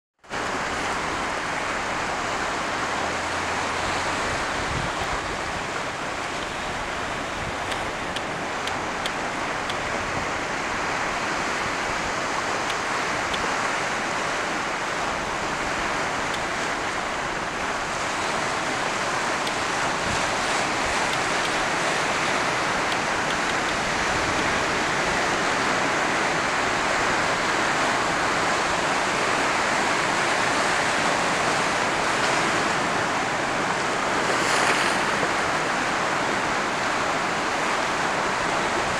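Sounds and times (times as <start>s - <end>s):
surf breaking on rocky shore: 0.3s - 38.9s.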